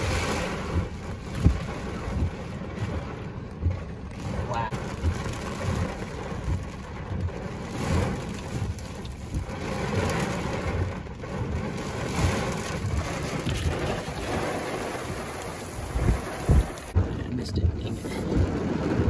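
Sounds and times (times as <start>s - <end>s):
heavy rain beating on a car: 0.0s - 19.0s
low rumbling: 0.0s - 19.0s.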